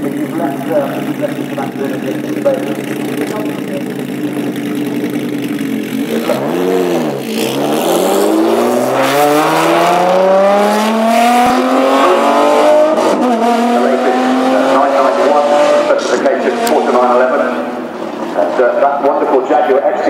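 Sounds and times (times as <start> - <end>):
sports car engine revving: 0.0 - 19.8.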